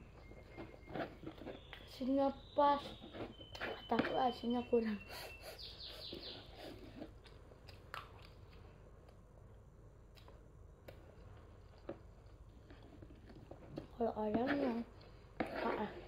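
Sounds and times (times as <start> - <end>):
child chewing food: 0.0 - 2.0, 2.8 - 16.0.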